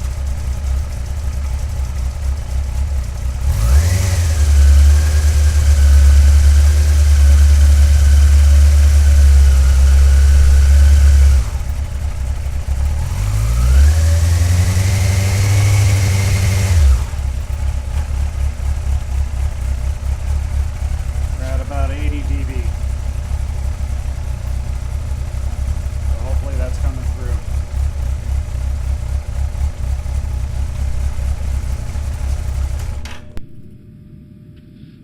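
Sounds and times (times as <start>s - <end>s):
motorcycle engine revving: 0.0s - 33.8s.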